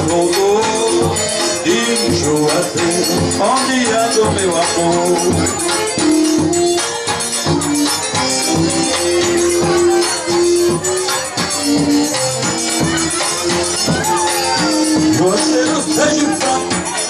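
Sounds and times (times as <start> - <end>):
accordion melody: 0.0 - 17.0
shaker and tambourine percussion: 0.0 - 17.0.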